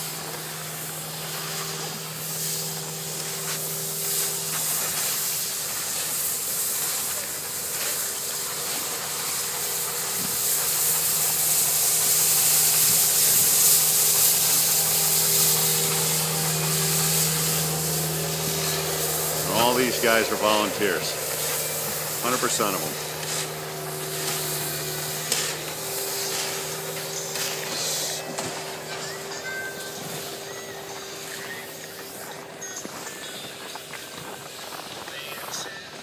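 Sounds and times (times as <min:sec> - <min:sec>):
brush sweeping snow hiss: 0:00.0 - 0:36.0
low engine hum: 0:00.0 - 0:36.0.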